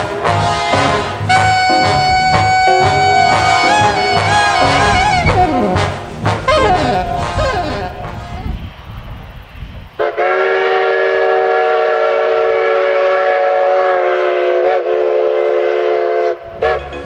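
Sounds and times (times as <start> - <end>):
steam locomotive whistle: 0.0 - 8.7, 10.0 - 17.0.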